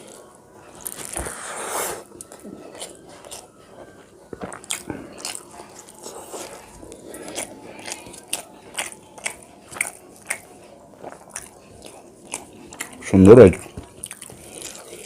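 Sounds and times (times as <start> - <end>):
person chewing and crunching: 0.0 - 15.0.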